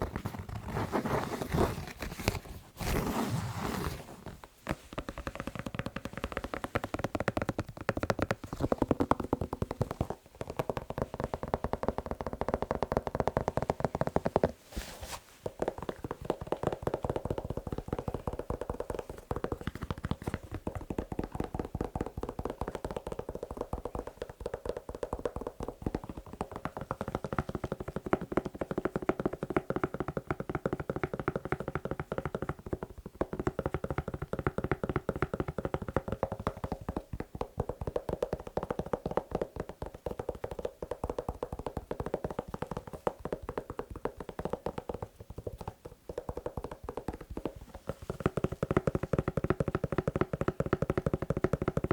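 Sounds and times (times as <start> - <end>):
fast tapping on a shoe: 0.0 - 51.9.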